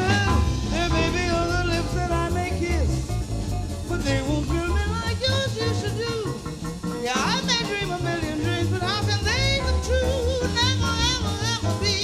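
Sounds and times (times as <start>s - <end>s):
jazz trio playing: 0.0s - 12.0s
woman singing jazz: 0.0s - 12.0s.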